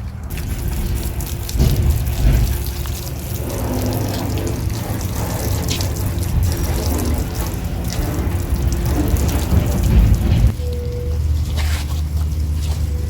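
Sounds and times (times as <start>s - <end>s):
steady low hum: 0.0s - 13.0s
water spraying from hose: 0.0s - 13.0s.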